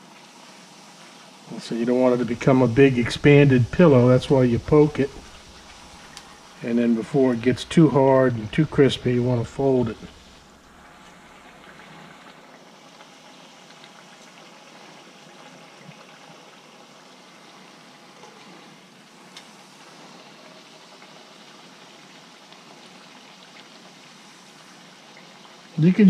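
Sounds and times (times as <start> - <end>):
tortilla sizzling in oil: 0.0 - 25.9.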